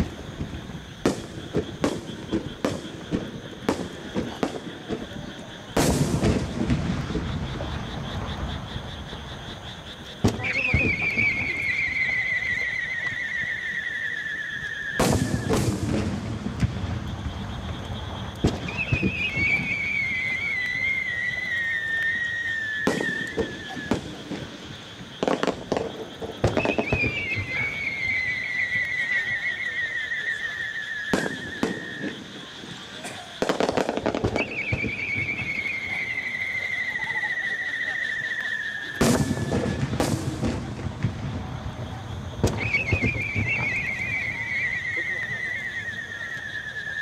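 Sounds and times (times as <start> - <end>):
firework shells bursting: 0.0 - 46.5
falling firework whistle: 0.0 - 47.0
firework pops and crackles: 0.0 - 47.0.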